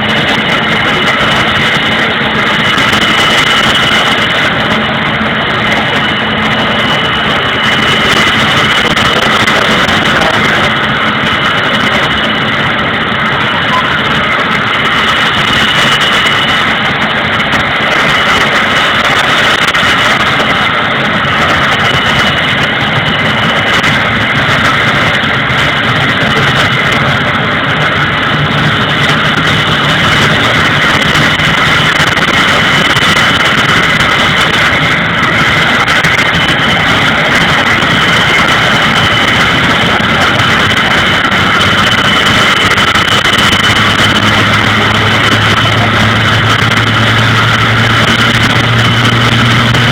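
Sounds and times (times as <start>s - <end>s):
high-pitched turbine whine: 0.0s - 49.9s
turboprop engines roaring: 0.0s - 49.9s.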